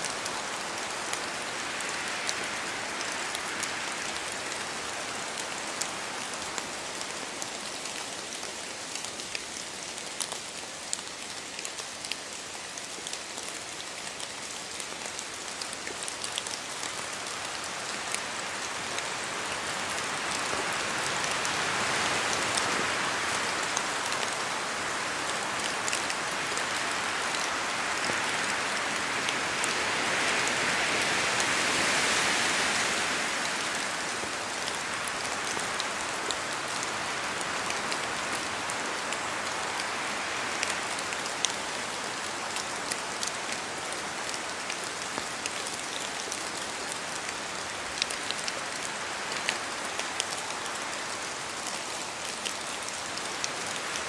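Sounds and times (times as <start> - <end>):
rain falling through trees: 0.0 - 54.0
raindrops ticking on leaves: 0.0 - 54.0.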